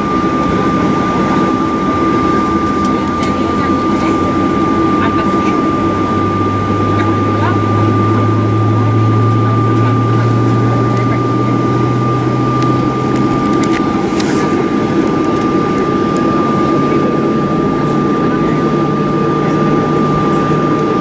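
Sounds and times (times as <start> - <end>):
aircraft engines and air-conditioning: 0.0 - 21.0
high whine: 0.0 - 21.0
strong low hum: 0.0 - 21.0.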